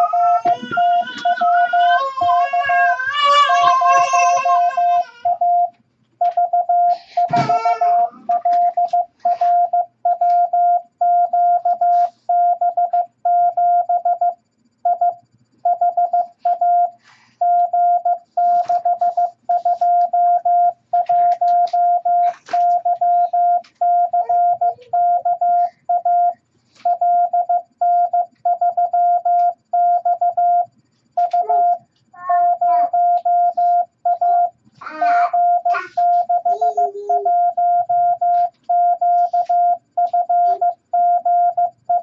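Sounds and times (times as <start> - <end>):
morse code beeps: 0.0 - 2.5, 5.2 - 34.6, 35.3 - 42.0.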